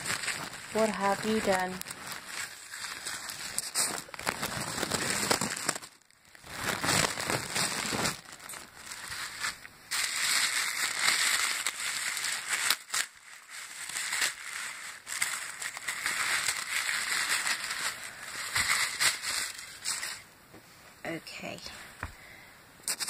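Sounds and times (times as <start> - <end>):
gift wrapping rustling and crackling: 0.0 - 20.3.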